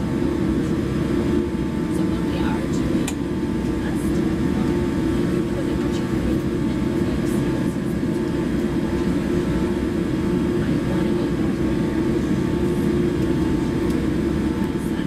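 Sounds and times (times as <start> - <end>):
jet cabin low rumble: 0.0 - 15.0.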